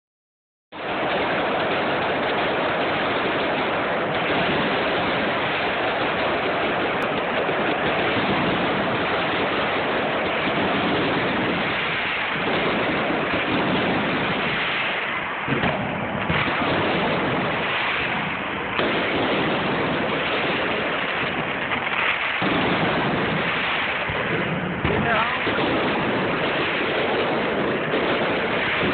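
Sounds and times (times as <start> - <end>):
fireworks crackling and rumbling: 0.7 - 28.9
sharp firework bangs: 0.7 - 28.9.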